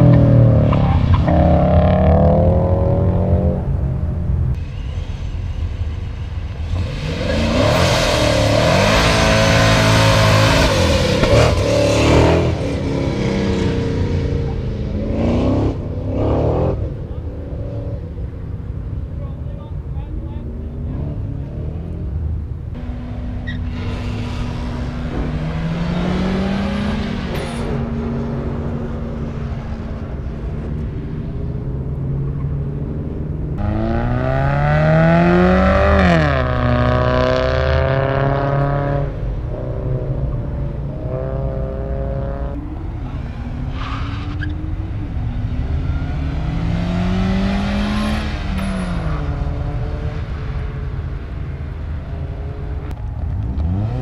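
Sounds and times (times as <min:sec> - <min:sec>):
race cars accelerating: 0:06.5 - 0:18.4, 0:20.4 - 0:54.0.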